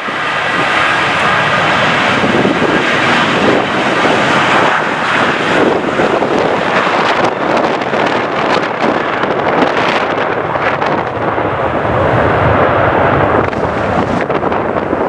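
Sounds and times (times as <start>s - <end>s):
airliner engines running: 0.0s - 15.0s
wind buffeting microphone: 0.0s - 15.0s.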